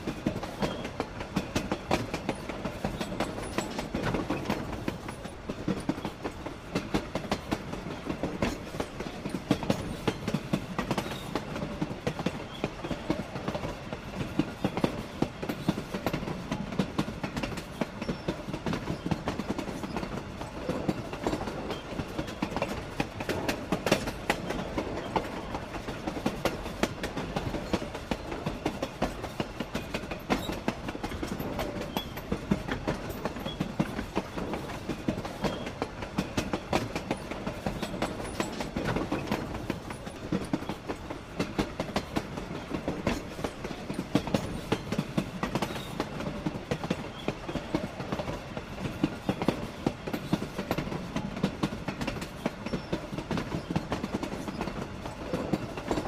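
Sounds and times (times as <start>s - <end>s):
train running noise: 0.0s - 56.0s
wheels clicking on rails: 0.0s - 56.0s.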